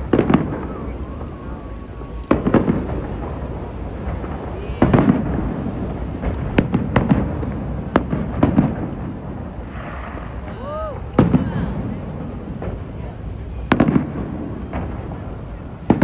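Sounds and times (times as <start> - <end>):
fireworks bangs: 0.0 - 16.0
low rumble and crackle: 0.0 - 16.0.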